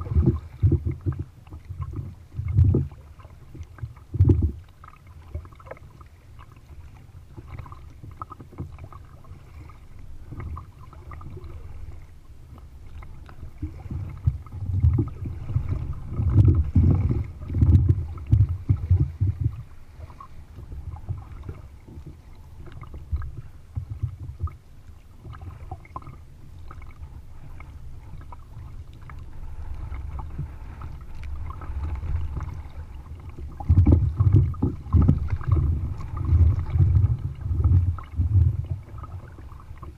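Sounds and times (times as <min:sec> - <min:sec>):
paddle splashing: 0:00.0 - 0:39.9
water slapping against hull: 0:00.0 - 0:39.9
low rumble: 0:06.8 - 0:39.9.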